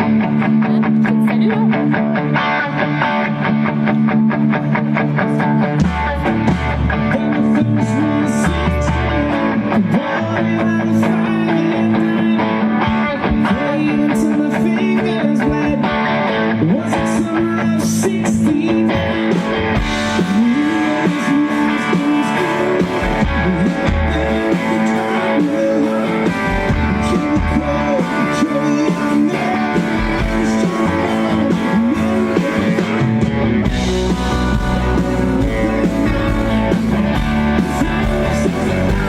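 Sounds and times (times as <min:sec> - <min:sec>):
live band music with guitar strumming: 0:00.0 - 0:39.0.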